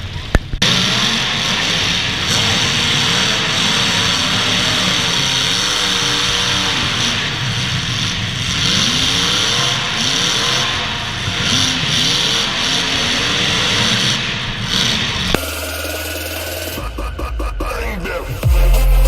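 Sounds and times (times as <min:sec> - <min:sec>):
car engines revving: 0:00.0 - 0:19.0
loud noisy din: 0:00.0 - 0:19.0.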